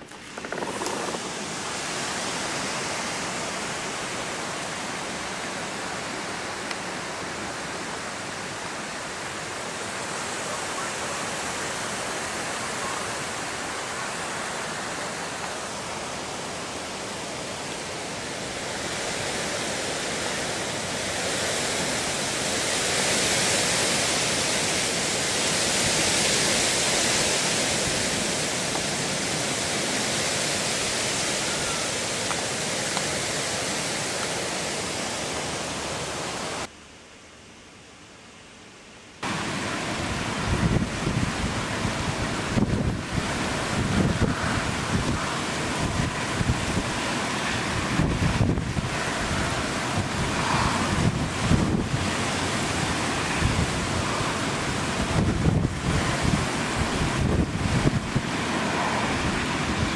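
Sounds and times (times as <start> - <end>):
wind and rain rushing: 0.0 - 37.0, 38.3 - 59.9.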